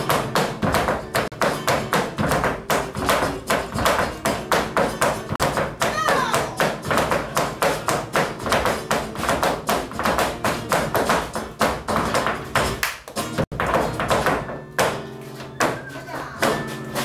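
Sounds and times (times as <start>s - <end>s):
dancer's rapid foot stamps: 0.0s - 17.0s
faint flamenco guitar: 0.0s - 17.0s.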